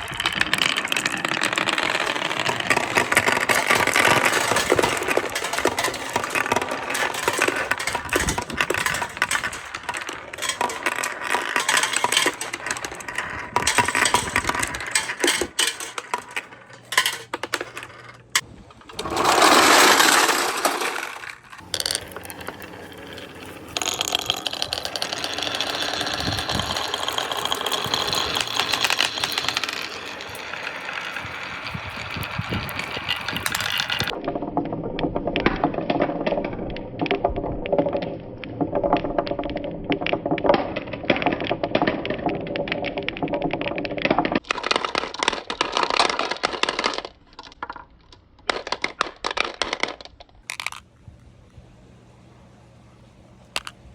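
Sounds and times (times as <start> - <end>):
marbles rolling and clattering: 0.0 - 51.2, 53.4 - 53.9.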